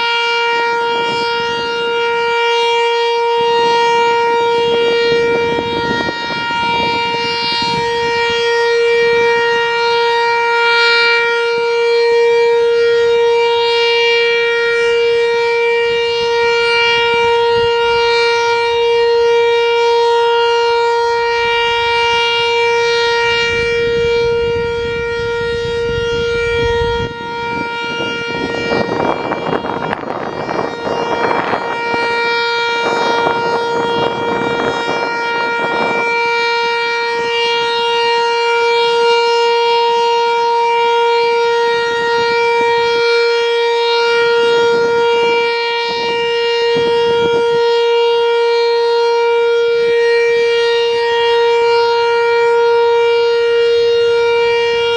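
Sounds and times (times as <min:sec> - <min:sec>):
warning siren steady tone: 0:00.0 - 0:54.9.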